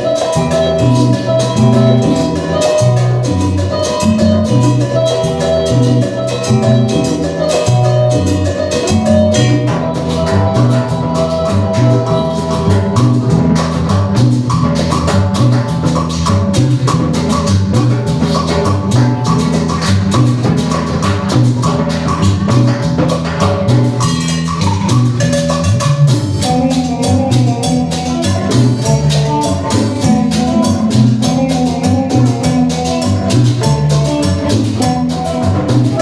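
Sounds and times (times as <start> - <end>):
live band playing latin dance music: 0.0 - 36.0.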